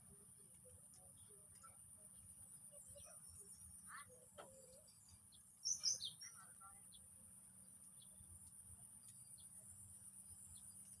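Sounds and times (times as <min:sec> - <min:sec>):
bird chirping: 0:00.8 - 0:11.0.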